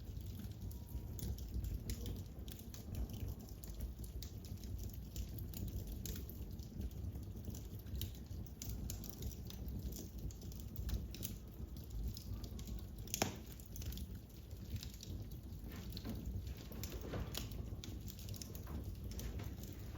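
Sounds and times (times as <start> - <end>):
fire crackling in fireplace: 0.0 - 19.9.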